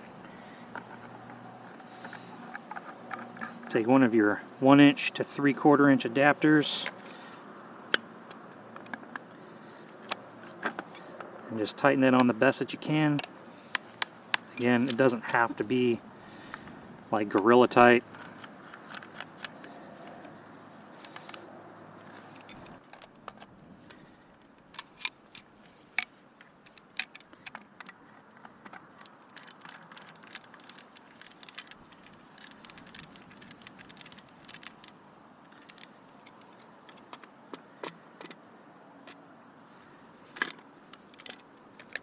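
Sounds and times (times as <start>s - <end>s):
hose fittings clicking and scraping: 0.2s - 4.1s, 9.9s - 21.4s, 22.0s - 39.2s, 39.8s - 42.0s.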